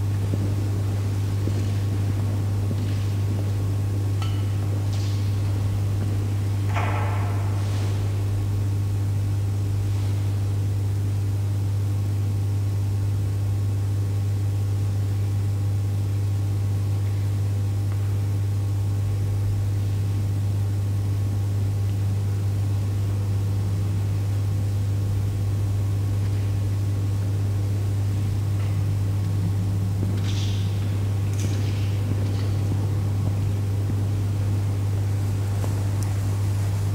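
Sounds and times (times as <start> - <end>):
low electrical hum: 0.0 - 36.9.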